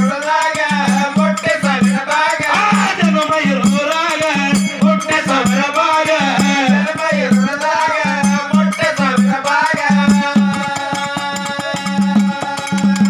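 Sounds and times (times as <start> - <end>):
man singing through microphone: 0.0 - 13.0
rattling percussion: 0.0 - 13.0.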